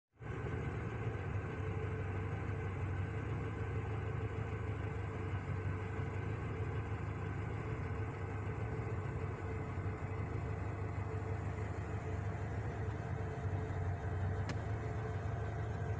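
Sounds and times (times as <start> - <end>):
car engine idling: 0.2 - 15.9.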